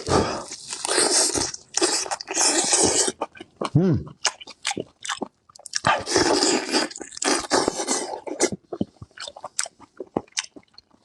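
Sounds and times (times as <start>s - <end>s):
biting and chewing: 0.0s - 11.0s
wet chewing clicks: 0.9s - 11.0s.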